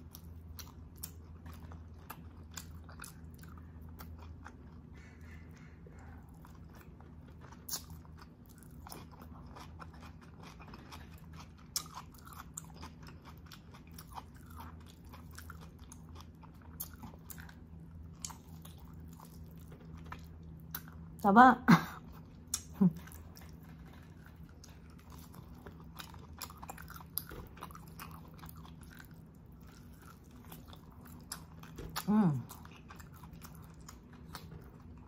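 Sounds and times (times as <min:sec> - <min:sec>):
person chewing food: 0:00.0 - 0:21.2, 0:22.0 - 0:35.0
faint low hum: 0:00.0 - 0:35.0.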